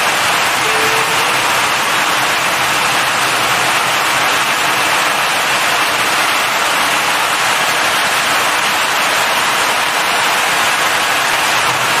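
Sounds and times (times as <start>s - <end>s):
car wash machine hissing: 0.0s - 12.0s.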